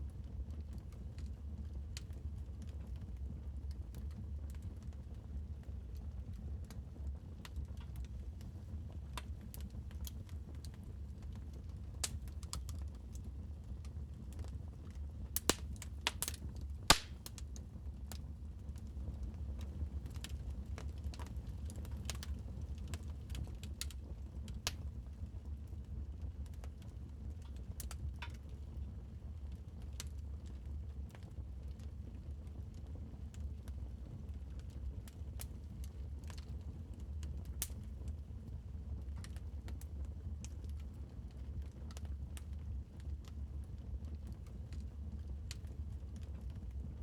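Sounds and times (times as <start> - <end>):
wood fire crackling: 0.2 - 47.0.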